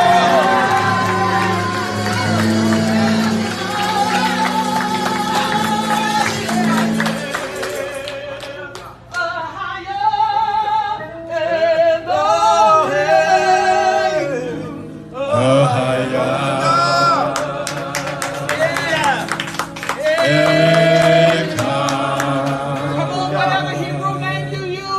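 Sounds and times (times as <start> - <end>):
worship music: 0.0 - 24.9.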